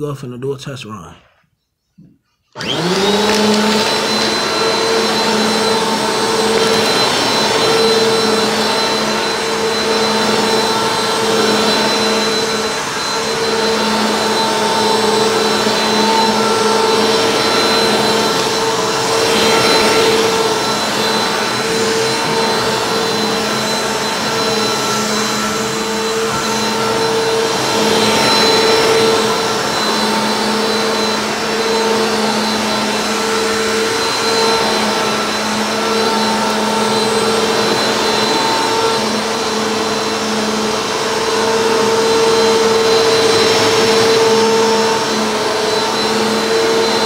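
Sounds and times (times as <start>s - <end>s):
vacuum cleaner motor whine: 2.6s - 47.0s.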